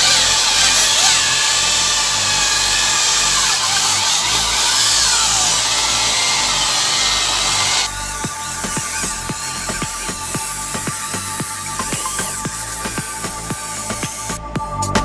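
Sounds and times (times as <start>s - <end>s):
power tool grinding car panel: 0.0s - 14.2s.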